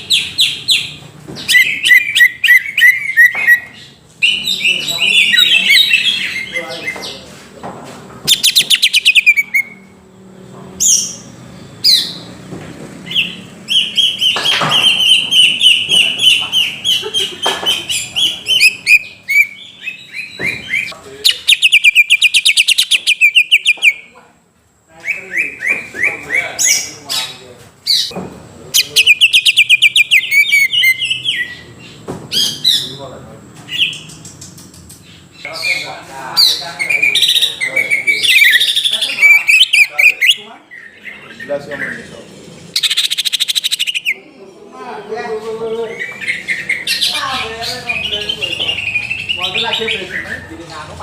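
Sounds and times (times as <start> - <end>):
bird singing trills and calls: 0.0 - 7.4, 8.2 - 10.0, 10.8 - 24.2, 25.0 - 51.0.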